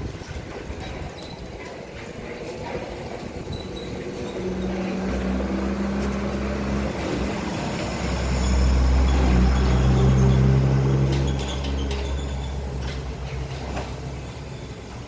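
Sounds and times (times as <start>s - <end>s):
heavy machine humming: 2.0s - 15.0s.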